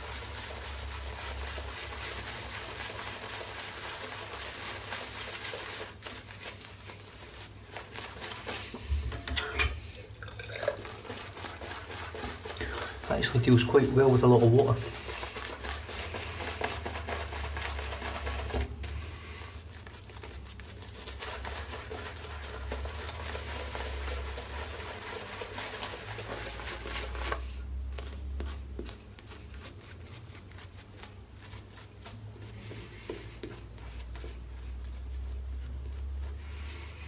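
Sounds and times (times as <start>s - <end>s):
shaving brush squishing lather: 0.0s - 9.0s, 10.0s - 37.0s.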